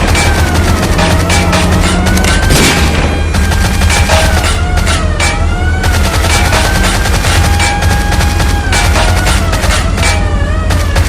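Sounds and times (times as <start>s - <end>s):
rapid gunfire: 0.0s - 11.0s.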